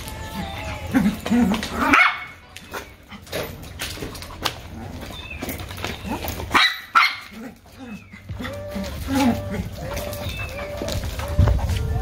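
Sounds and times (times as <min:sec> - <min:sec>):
dogs barking: 0:00.8 - 0:12.0.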